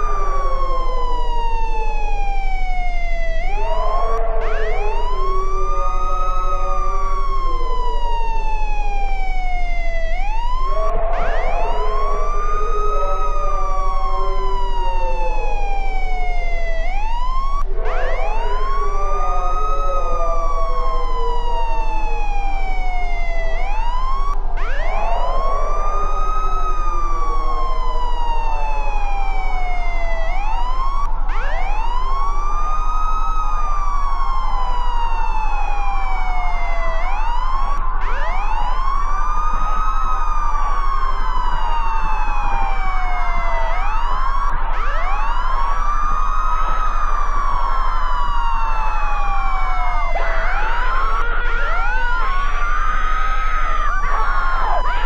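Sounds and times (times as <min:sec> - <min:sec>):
wailing alert siren: 0:00.0 - 0:55.0.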